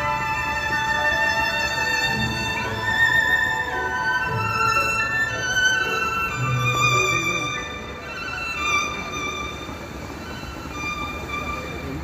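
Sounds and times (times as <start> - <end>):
violin playing long notes: 0.0 - 12.0.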